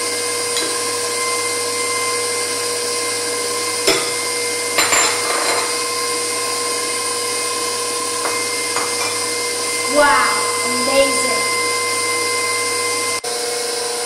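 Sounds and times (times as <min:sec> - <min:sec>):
stand mixer motor whine: 0:00.0 - 0:14.0.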